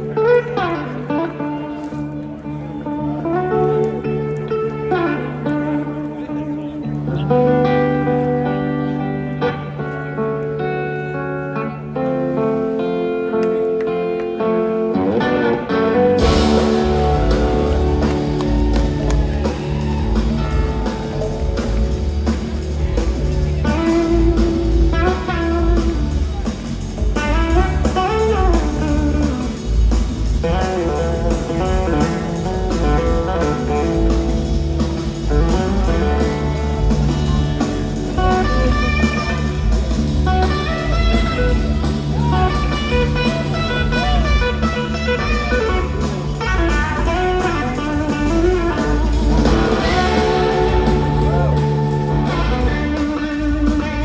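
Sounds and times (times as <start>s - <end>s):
bass guitar: 0.0s - 54.0s
drums: 0.0s - 54.0s
electric slide guitar: 0.0s - 54.0s.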